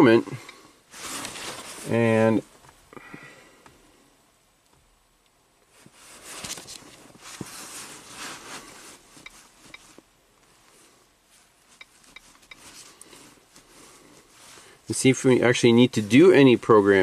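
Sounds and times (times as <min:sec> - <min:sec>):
faint rustling: 0:00.0 - 0:04.1, 0:05.6 - 0:17.0
soft hiss: 0:00.0 - 0:17.0.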